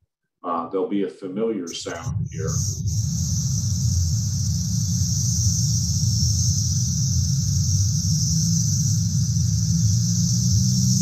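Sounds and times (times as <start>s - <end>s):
cicadas buzzing: 1.7s - 11.0s
low rumble: 1.7s - 11.0s.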